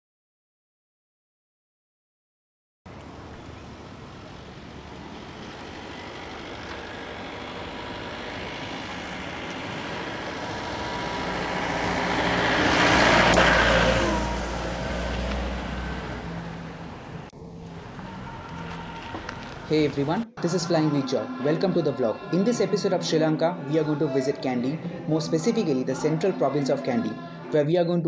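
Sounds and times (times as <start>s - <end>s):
vehicle passing by: 2.9s - 27.5s.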